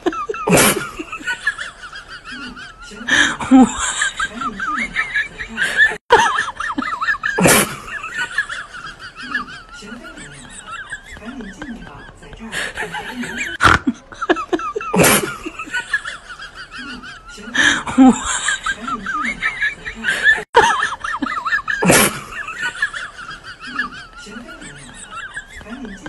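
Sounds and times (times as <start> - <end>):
comedy laughter sound effects: 0.0 - 26.0.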